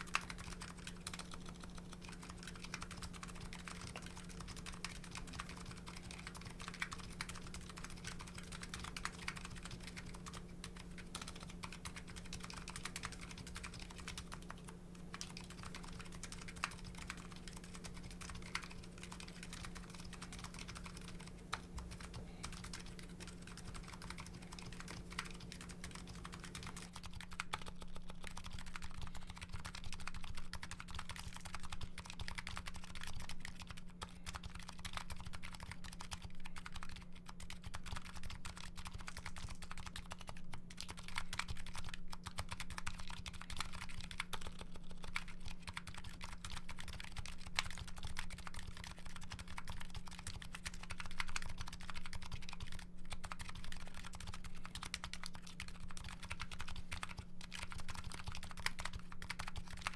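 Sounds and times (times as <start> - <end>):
fast keyboard typing: 0.0 - 59.9.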